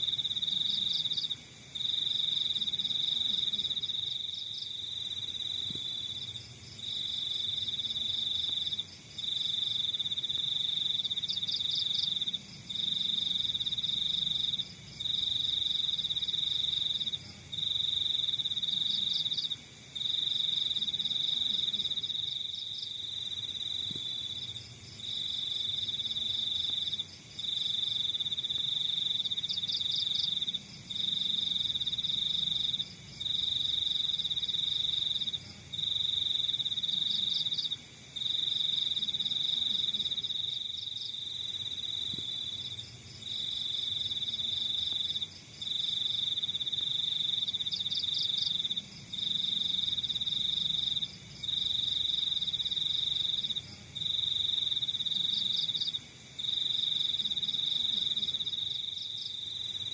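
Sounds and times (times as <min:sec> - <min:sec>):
crickets trilling: 0:00.0 - 0:59.9
insects chirping: 0:00.0 - 0:59.9.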